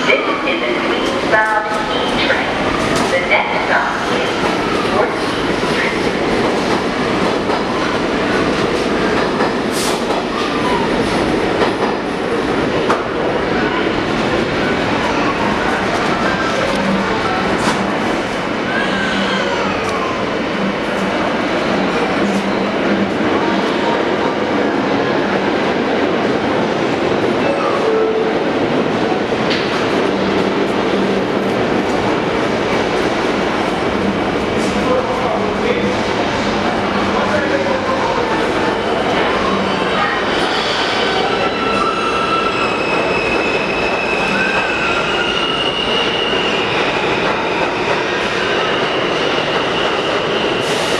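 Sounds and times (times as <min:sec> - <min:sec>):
subway train wheels clattering: 0:00.0 - 0:50.9.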